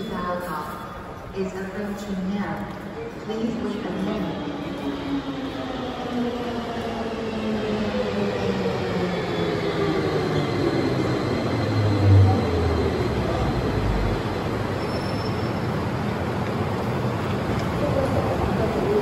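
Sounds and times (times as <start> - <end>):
train low rumble: 2.6 - 19.0.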